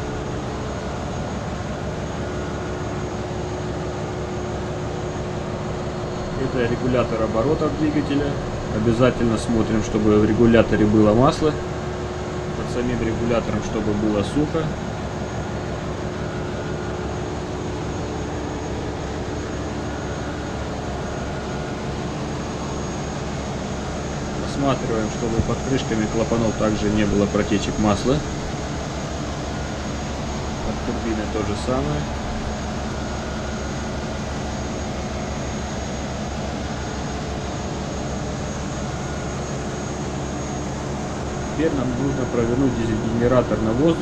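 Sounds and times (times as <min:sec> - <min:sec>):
marine diesel machinery drone: 0:00.0 - 0:44.0.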